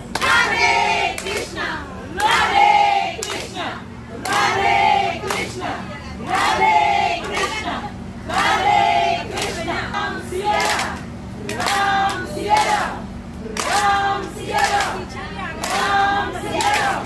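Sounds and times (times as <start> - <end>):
group chanting in unison: 0.2 - 15.0, 15.6 - 17.0.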